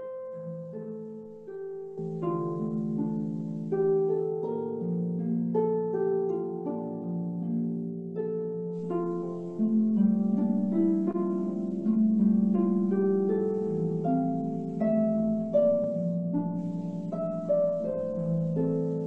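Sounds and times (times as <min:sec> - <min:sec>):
harp melody: 0:00.0 - 0:19.0.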